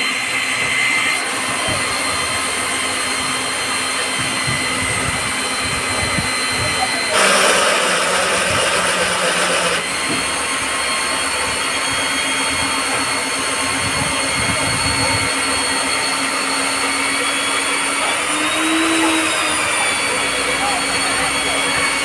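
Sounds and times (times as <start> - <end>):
core drill whining and grinding: 0.0 - 22.0.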